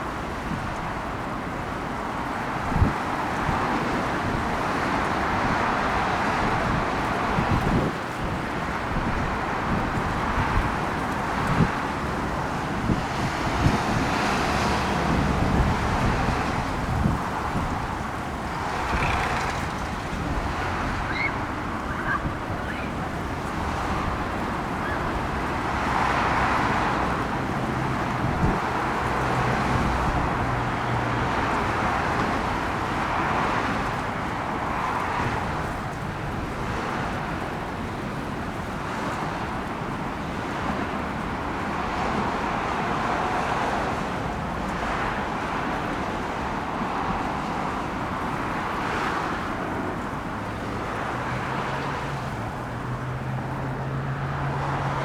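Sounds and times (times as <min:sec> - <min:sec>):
cars passing: 0:00.0 - 0:55.0
road traffic: 0:00.0 - 0:55.0.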